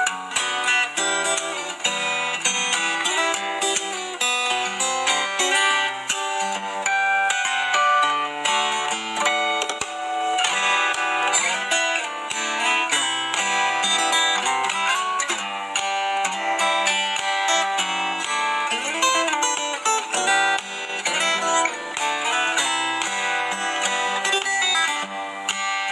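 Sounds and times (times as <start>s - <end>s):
fingerstyle acoustic guitar: 0.0s - 25.9s.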